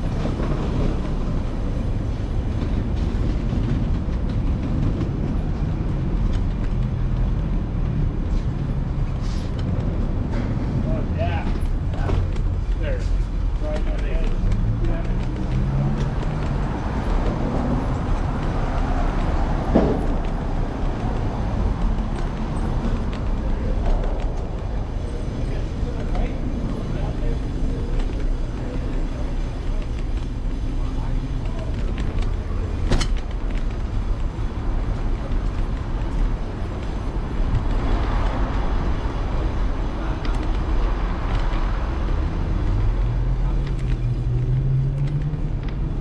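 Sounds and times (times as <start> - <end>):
street traffic: 0.0 - 46.0
wind rumble on microphone: 0.0 - 46.0.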